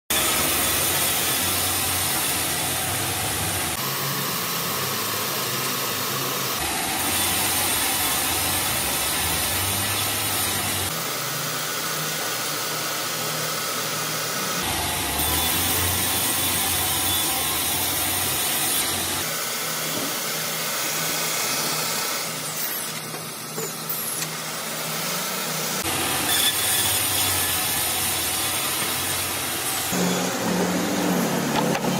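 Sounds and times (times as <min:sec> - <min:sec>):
power saw cutting log: 0:00.1 - 0:31.9.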